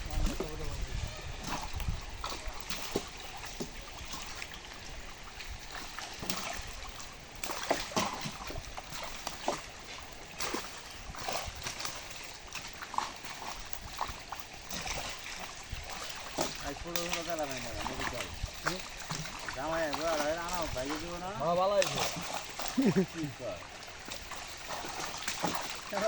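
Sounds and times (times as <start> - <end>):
water splashing and sloshing: 0.0 - 26.0
water trickling: 0.0 - 26.0.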